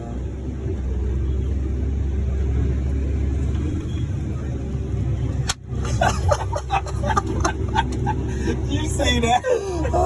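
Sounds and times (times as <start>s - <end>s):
heavy machinery engine rumbling: 0.0s - 10.0s.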